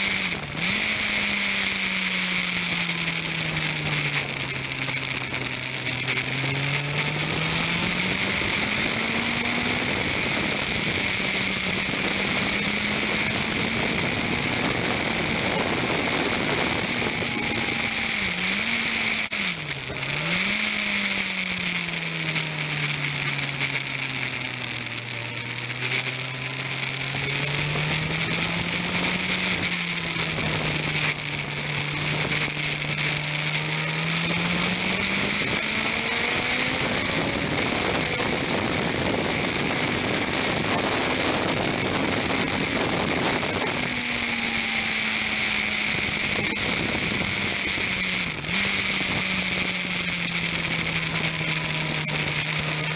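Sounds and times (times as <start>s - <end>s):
motorcycle engine running: 0.0s - 52.9s
wind rushing over microphone: 2.6s - 20.5s, 23.0s - 52.8s.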